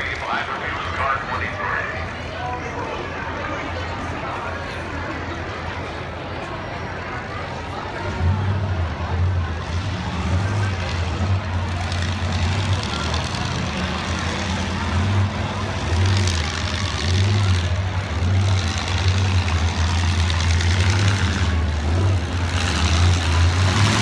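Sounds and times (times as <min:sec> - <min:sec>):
demolition derby car engines: 0:00.0 - 0:24.0.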